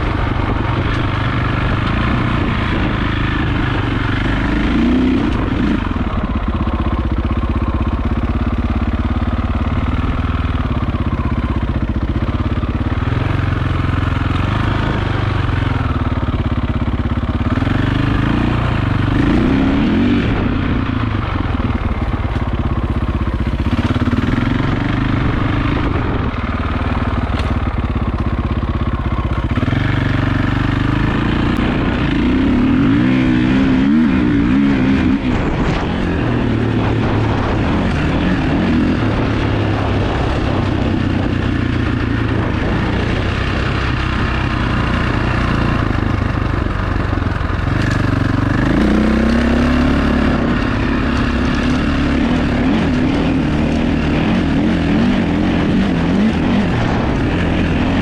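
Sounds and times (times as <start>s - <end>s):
dirt bike engine accelerating: 0.0s - 58.0s.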